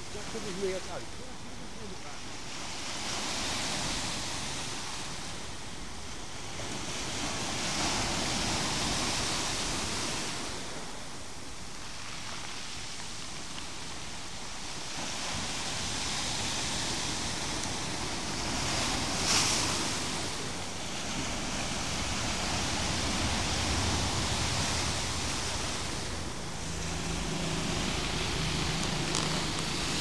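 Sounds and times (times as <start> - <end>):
waves crashing on rocky shore: 0.0 - 30.0.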